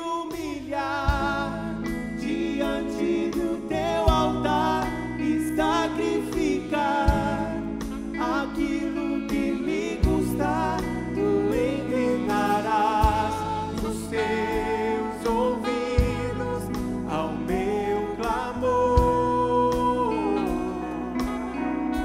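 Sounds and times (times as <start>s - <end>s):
bass: 0.0s - 22.0s
drums: 0.0s - 22.0s
person singing: 0.0s - 22.0s.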